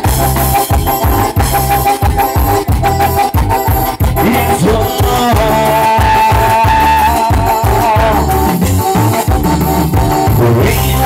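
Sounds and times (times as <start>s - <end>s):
live tropical band music: 0.0s - 11.0s
pulsing bass beat: 0.0s - 11.0s.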